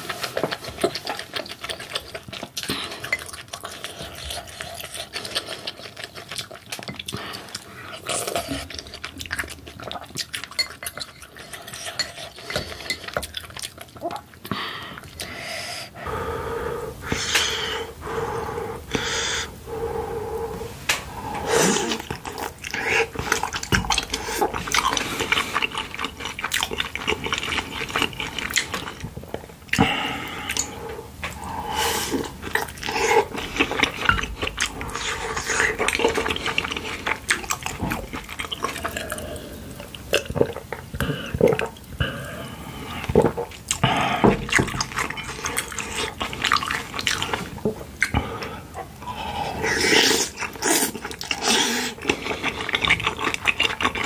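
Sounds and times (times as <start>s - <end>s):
wet chewing mouth sounds: 0.0s - 16.3s, 17.0s - 54.0s.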